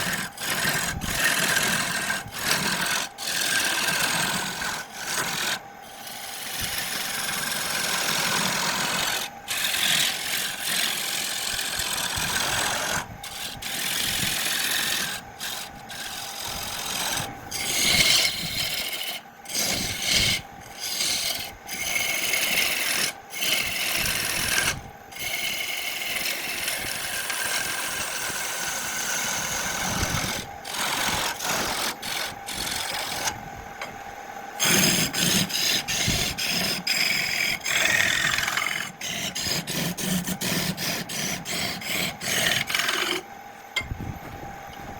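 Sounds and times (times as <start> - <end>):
lathe tool scraping wood: 0.0 - 33.4, 34.6 - 43.3.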